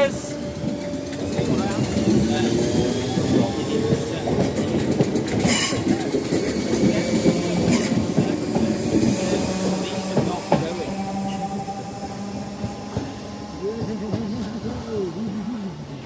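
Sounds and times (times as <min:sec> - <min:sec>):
train wheels rumbling on track: 0:00.0 - 0:16.0
train wheel squeals: 0:00.3 - 0:14.4.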